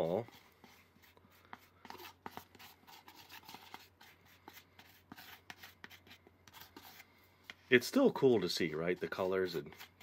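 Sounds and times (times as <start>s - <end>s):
hands kneading dough: 0.0s - 10.0s.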